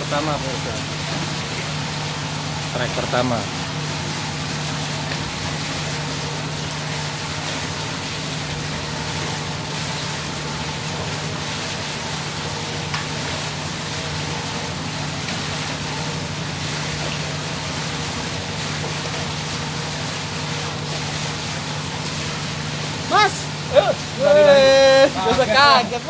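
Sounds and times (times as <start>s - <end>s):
steady engine drone: 0.0s - 26.0s.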